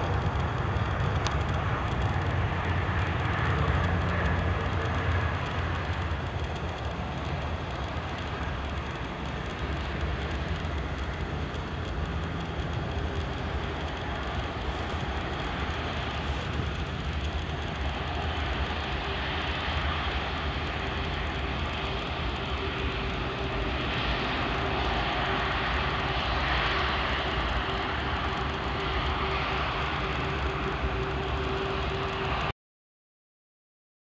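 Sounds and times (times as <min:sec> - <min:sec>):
jet engines roaring: 0:00.0 - 0:32.5
steady hum tone: 0:00.0 - 0:32.5.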